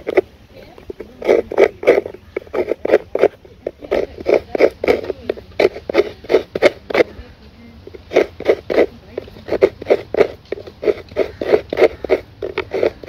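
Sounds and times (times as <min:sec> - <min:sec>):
coconut grating strokes: 0:00.0 - 0:13.0.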